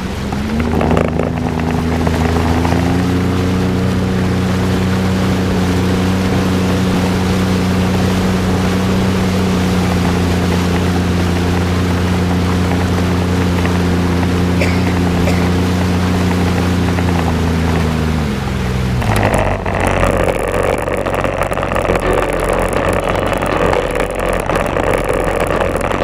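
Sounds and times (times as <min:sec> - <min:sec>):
jet ski engine speeding up: 0:00.0 - 0:26.0.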